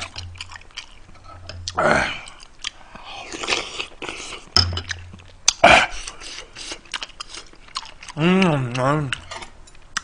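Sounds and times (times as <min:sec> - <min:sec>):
person chewing and slurping food: 0:00.0 - 0:10.0.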